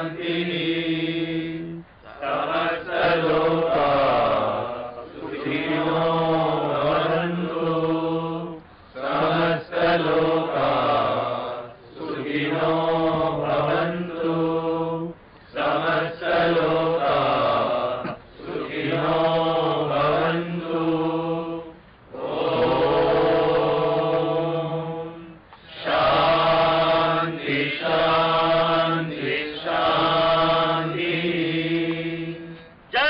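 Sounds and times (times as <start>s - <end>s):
men chanting: 0.0s - 33.0s.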